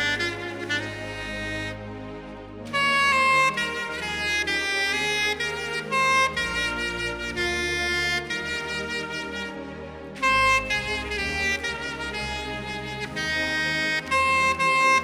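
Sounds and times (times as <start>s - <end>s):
soprano saxophone hymn melody: 0.0s - 15.0s.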